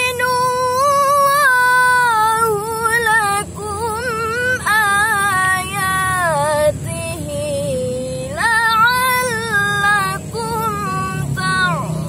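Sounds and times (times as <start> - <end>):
woman reciting melodically: 0.0 - 12.0.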